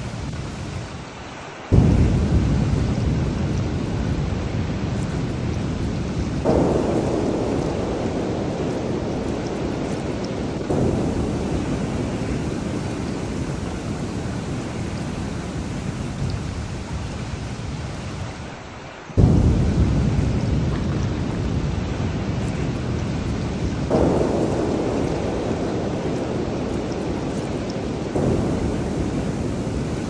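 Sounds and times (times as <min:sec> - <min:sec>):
heavy rain: 0:00.0 - 0:30.0
thunder claps rumbling: 0:01.7 - 0:18.5, 0:19.2 - 0:30.0.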